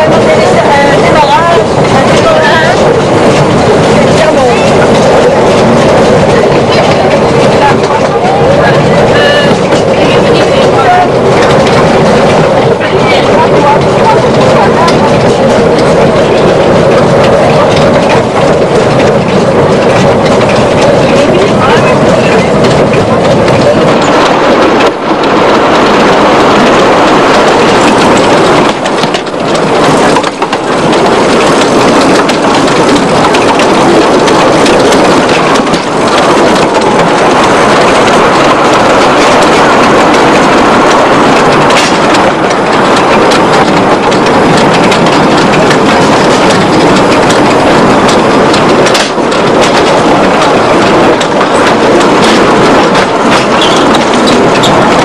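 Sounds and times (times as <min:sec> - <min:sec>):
small locomotive running on track: 0:00.0 - 0:55.0.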